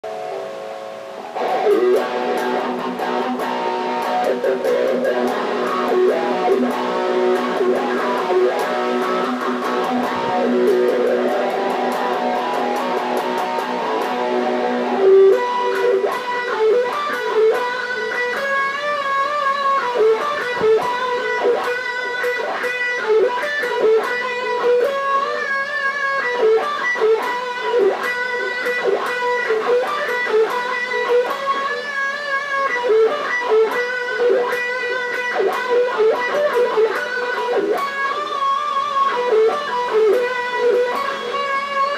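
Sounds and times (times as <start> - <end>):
electric guitar rock instrumental: 0.0 - 41.9.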